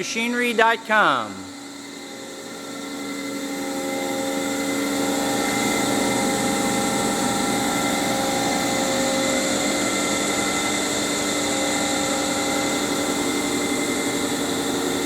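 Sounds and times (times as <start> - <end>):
lathe hum and whine: 0.0 - 15.0.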